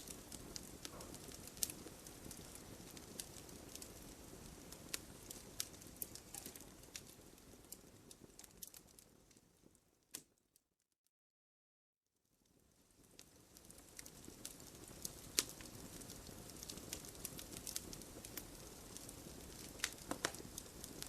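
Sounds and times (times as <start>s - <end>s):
low hiss of fire: 0.0s - 10.3s, 12.4s - 21.0s
wood fire crackling and popping: 0.0s - 10.3s, 12.4s - 21.0s.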